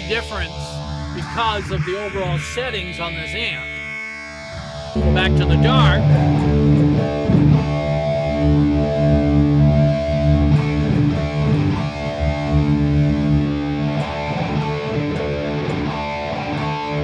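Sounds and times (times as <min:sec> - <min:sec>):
electric guitar chords ringing: 0:00.0 - 0:17.0.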